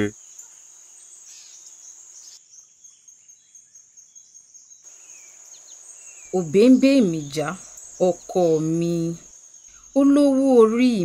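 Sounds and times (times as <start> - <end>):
crickets chirring: 0.0 - 11.0
faint bird chirps: 0.0 - 11.0.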